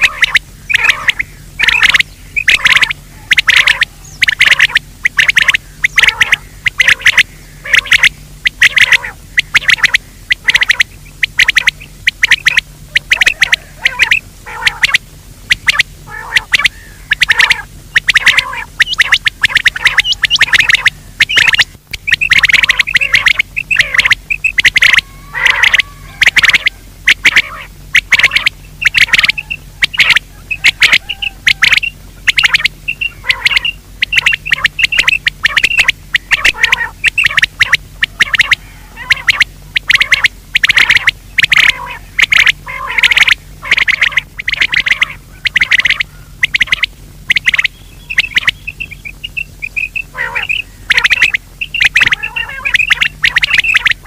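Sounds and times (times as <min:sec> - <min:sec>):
recorded game-bird calls: 0:00.0 - 0:54.0.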